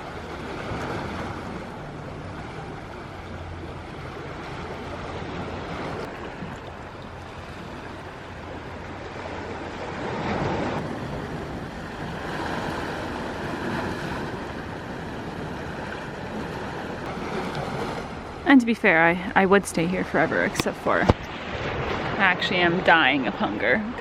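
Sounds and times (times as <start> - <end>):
waves washing onto shore: 0.0 - 24.0.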